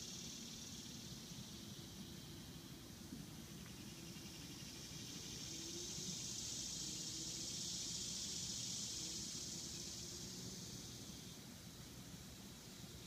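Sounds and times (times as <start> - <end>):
cicada buzzing: 0.0 - 2.8, 3.4 - 13.0.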